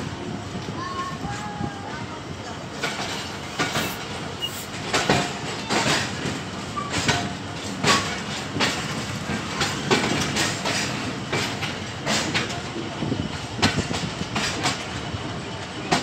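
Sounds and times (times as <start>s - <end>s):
train rumble: 0.0s - 16.0s
wheels clacking over rail joints: 2.5s - 16.0s.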